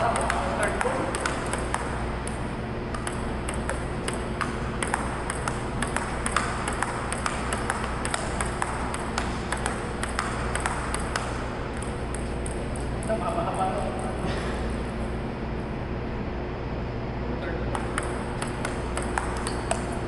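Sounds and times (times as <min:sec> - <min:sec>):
table tennis ball clicking: 0:00.0 - 0:14.2, 0:17.7 - 0:20.0
steady low hum: 0:00.0 - 0:20.0.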